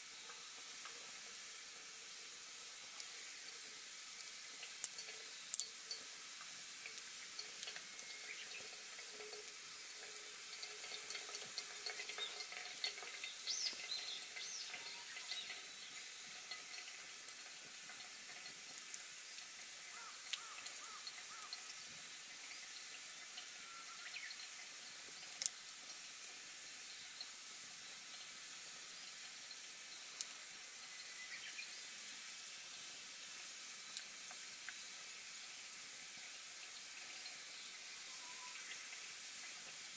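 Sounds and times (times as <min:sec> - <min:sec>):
wood crackling and popping: 0:00.0 - 0:30.8, 0:32.7 - 0:39.9
campfire hissing: 0:00.0 - 0:39.9.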